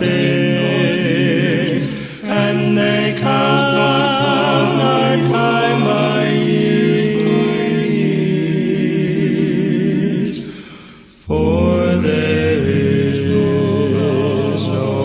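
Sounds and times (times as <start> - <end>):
vocal quartet singing in harmony: 0.0 - 15.0.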